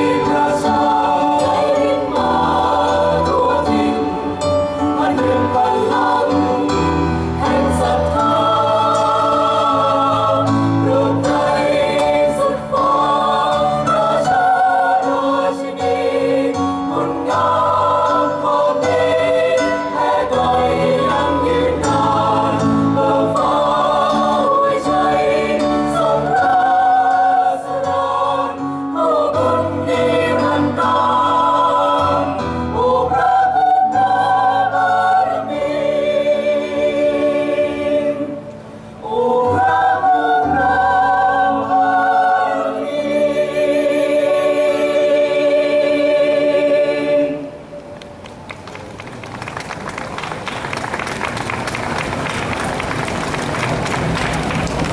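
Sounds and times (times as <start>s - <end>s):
mixed choir singing: 0.0s - 47.9s.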